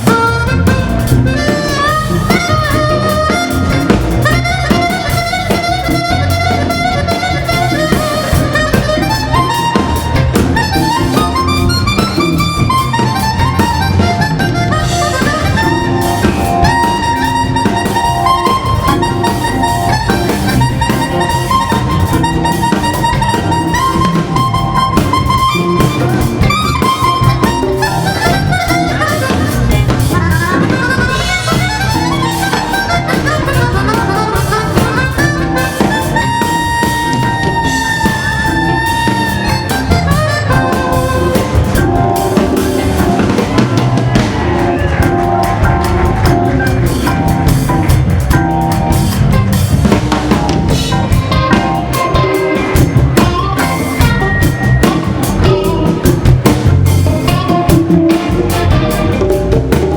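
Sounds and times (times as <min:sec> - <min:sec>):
drum kit groove: 0:00.0 - 0:59.9
organ playing sustained notes: 0:00.0 - 0:59.9.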